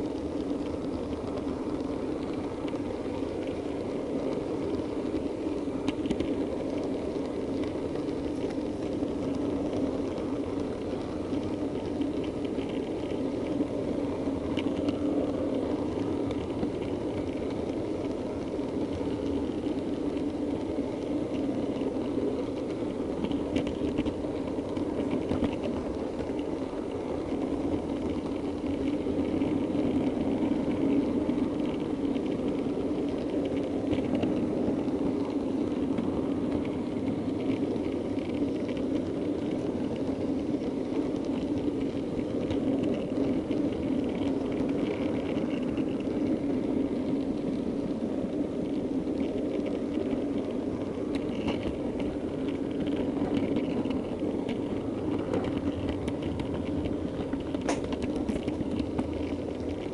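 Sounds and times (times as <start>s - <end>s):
wheels clicking over rail joints: 0.0s - 59.9s.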